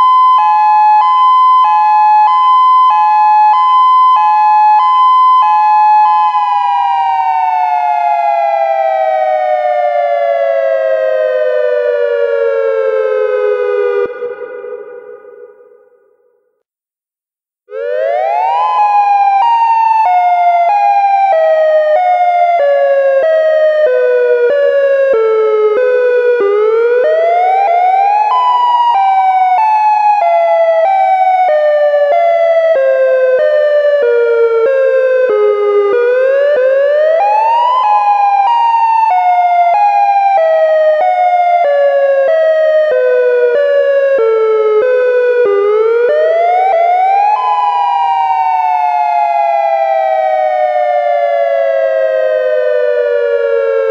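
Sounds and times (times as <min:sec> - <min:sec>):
dual-tone warning siren wailing: 0:00.0 - 0:16.3, 0:17.7 - 0:53.9.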